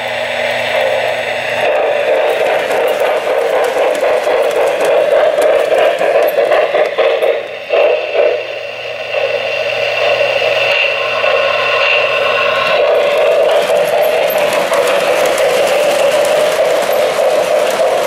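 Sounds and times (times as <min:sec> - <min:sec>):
model trains whirring and rattling: 0:00.0 - 0:18.0.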